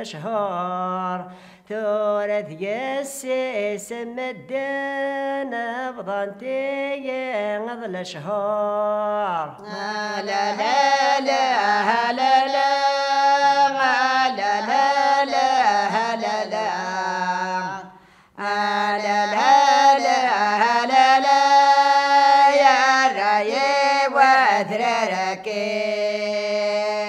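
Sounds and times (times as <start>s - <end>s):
women singing unaccompanied chant: 0.0s - 27.0s.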